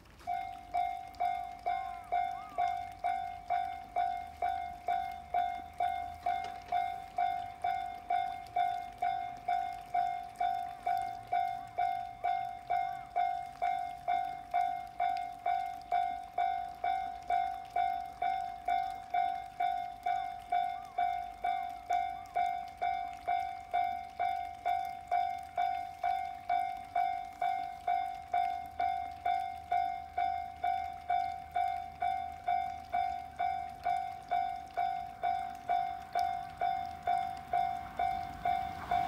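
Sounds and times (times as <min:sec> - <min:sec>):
level crossing alarm dinging: 0:00.0 - 0:39.0.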